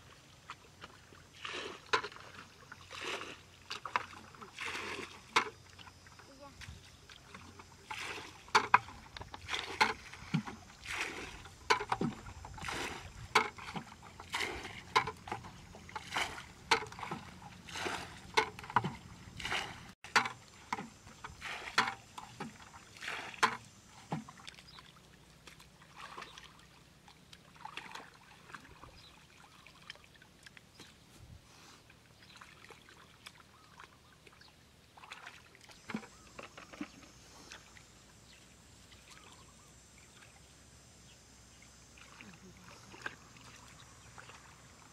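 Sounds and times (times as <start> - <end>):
bucket splashing muddy water: 0.0 - 31.0, 35.0 - 37.7, 41.9 - 44.8
faint sloshing in shallow water: 0.0 - 44.9.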